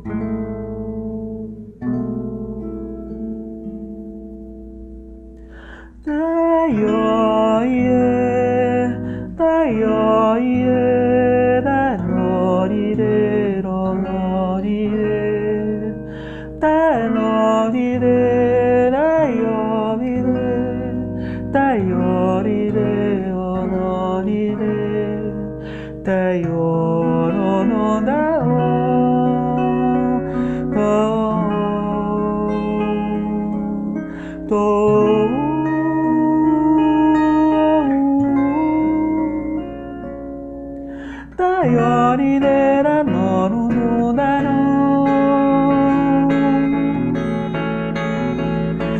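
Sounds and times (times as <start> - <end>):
gentle acoustic guitar music: 0.0 - 48.9.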